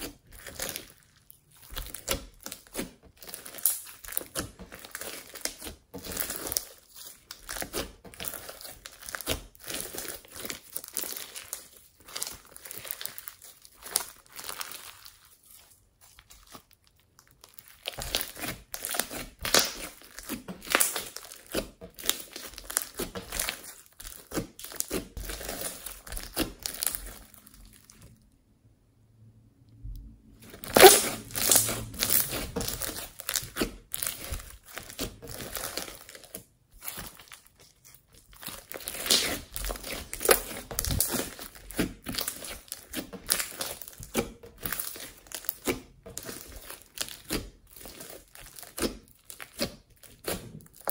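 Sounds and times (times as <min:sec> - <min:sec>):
slime crackling and popping: 0:00.0 - 0:28.2, 0:30.0 - 0:50.9.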